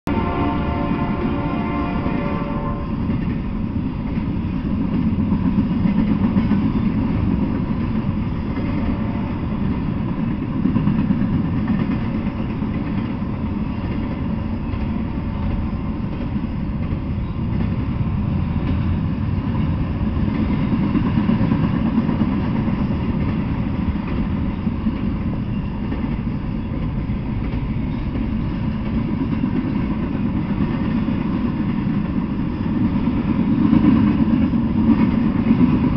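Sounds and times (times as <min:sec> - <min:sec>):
freight train wheels rumbling on rails: 0:00.0 - 0:35.9.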